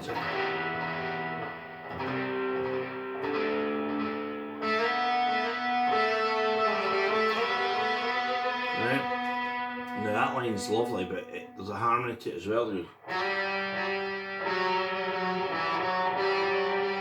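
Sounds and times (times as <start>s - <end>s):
electric guitar long held notes: 0.0s - 11.7s, 13.0s - 17.0s.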